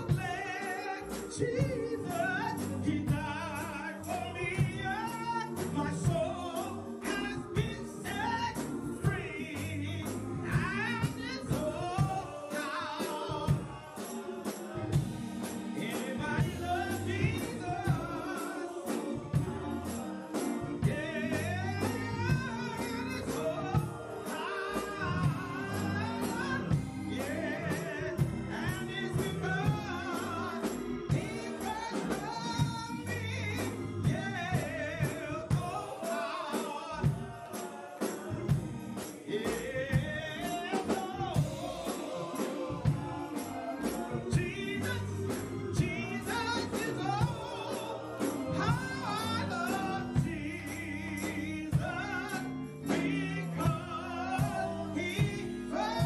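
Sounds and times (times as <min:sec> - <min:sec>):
music with percussive beat: 0:00.0 - 0:56.0.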